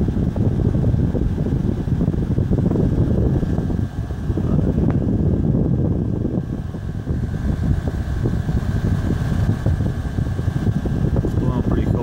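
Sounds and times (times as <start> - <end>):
air conditioner fan blowing: 0.0 - 12.0
thin steady whine: 0.0 - 12.0.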